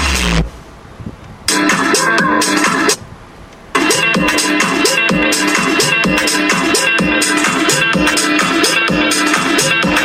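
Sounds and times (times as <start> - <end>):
electronic dance music: 0.0 - 0.5, 1.5 - 3.0, 3.8 - 10.0.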